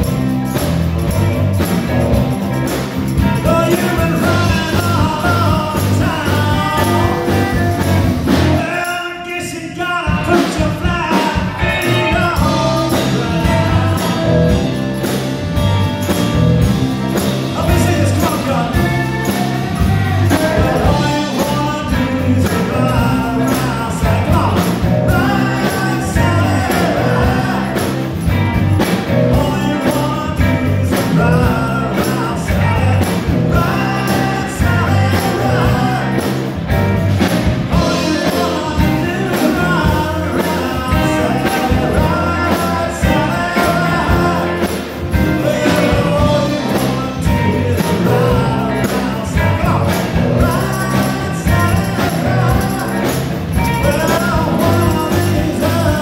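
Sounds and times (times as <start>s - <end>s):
rock band playing: 0.0s - 56.0s
man singing: 1.1s - 56.0s.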